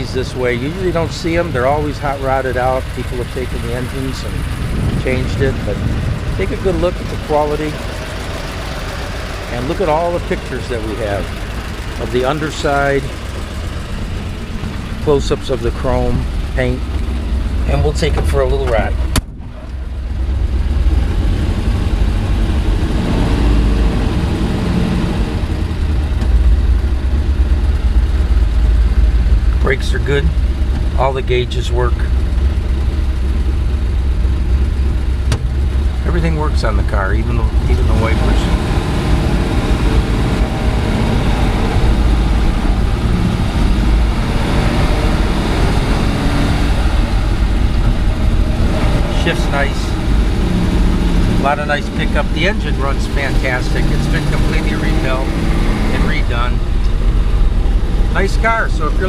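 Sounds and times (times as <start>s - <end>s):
pickup truck engine rumbling: 0.0s - 59.0s
road noise: 0.0s - 59.0s.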